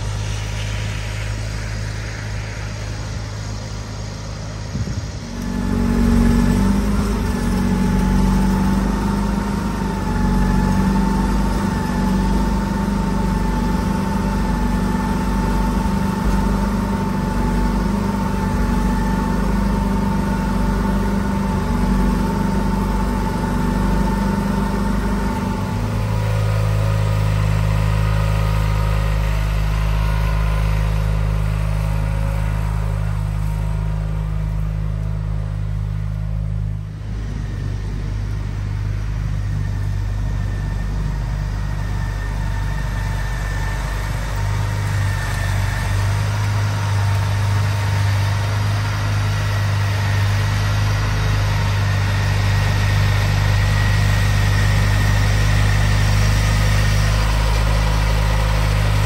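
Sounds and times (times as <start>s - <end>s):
garden tractor engine running: 0.0s - 59.0s
snowblower whine: 0.0s - 59.0s.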